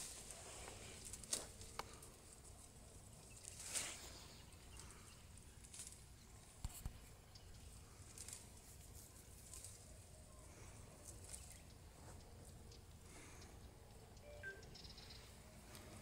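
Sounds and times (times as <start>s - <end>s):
leaves and twigs rustling: 0.0s - 13.4s.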